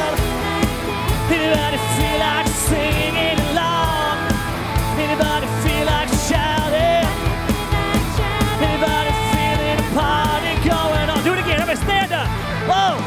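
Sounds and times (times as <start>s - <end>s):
bass guitar: 0.0s - 13.0s
drum kit beat: 0.0s - 13.0s
electric guitars: 0.0s - 13.0s
sung vocals: 0.0s - 13.0s.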